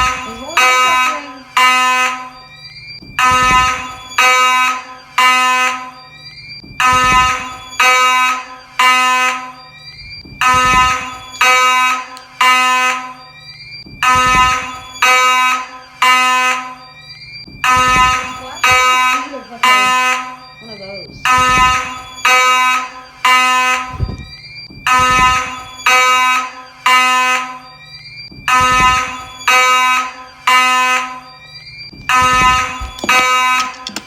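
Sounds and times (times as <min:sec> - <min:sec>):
fire alarm horn blasts: 0:00.0 - 0:34.0.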